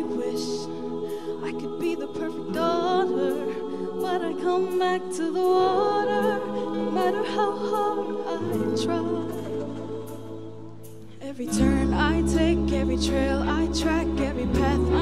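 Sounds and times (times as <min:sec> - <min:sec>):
woman singing into microphone: 0:00.0 - 0:10.4, 0:11.1 - 0:15.0
choir singing held chords: 0:00.0 - 0:15.0.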